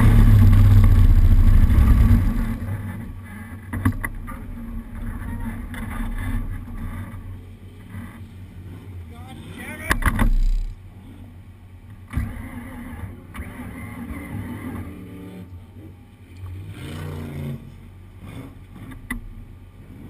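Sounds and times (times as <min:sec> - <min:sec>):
engine running and revving: 0:00.0 - 0:20.0.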